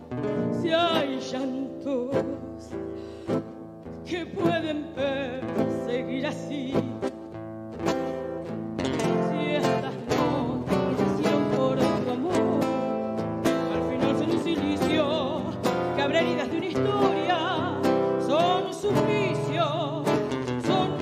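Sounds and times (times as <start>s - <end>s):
woman singing with vibrato: 0.0s - 3.0s, 4.0s - 7.2s, 8.9s - 21.0s
tango on acoustic guitars: 0.0s - 21.0s.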